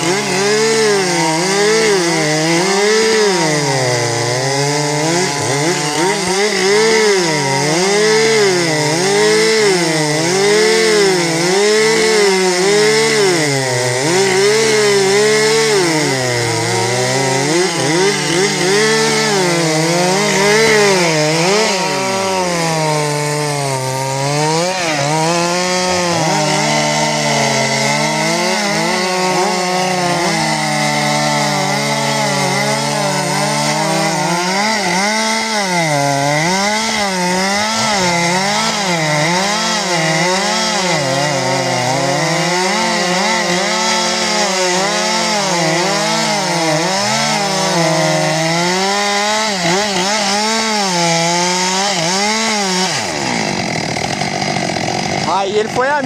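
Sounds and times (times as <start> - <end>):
chainsaws cutting logs: 0.0 - 56.0.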